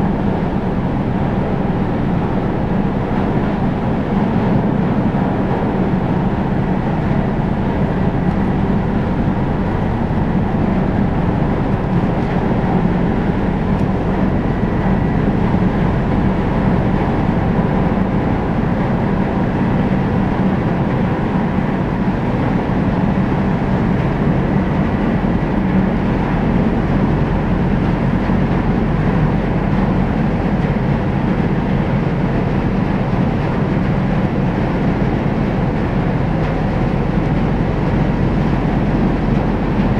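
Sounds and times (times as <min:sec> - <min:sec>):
diesel machinery rumbling: 0:00.0 - 0:39.9.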